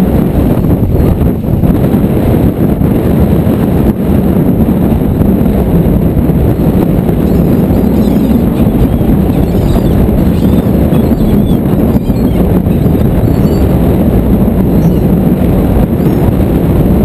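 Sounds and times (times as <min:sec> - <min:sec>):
boat noise: 0:00.0 - 0:17.0
sea: 0:00.0 - 0:17.0
wind buffeting microphone: 0:00.0 - 0:17.0.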